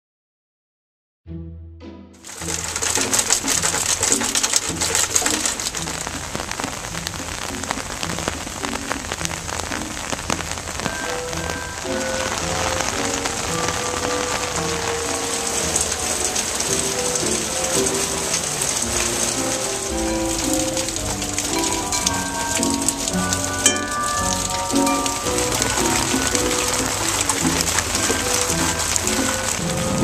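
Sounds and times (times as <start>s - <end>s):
soft background music: 1.3s - 30.0s
rain falling on leaves: 2.2s - 30.0s.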